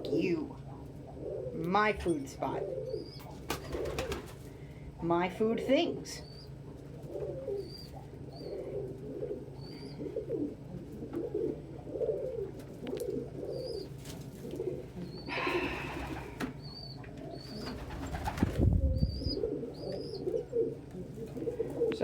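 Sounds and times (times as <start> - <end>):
pigeons cooing: 0.0 - 4.7, 6.1 - 22.0.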